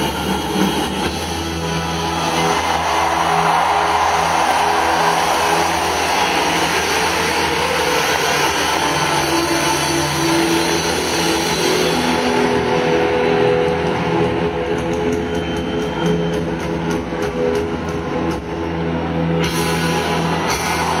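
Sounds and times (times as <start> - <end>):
loud live band music: 0.0 - 21.0.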